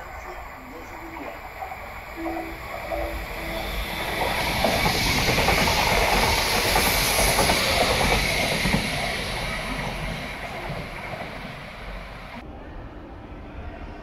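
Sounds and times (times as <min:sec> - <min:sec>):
train wheels rushing on rails: 0:00.0 - 0:12.4.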